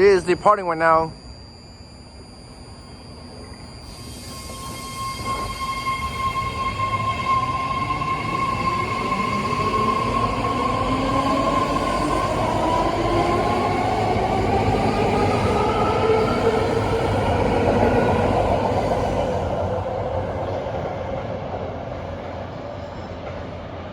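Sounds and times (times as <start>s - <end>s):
electric train motor whine: 0.0s - 21.1s.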